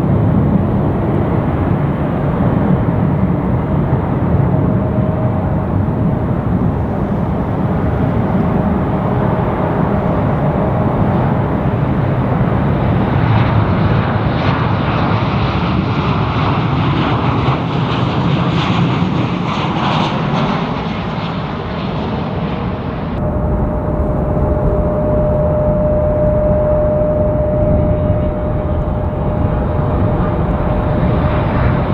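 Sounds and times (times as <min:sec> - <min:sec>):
jet airliner rumble: 0:00.0 - 0:31.9.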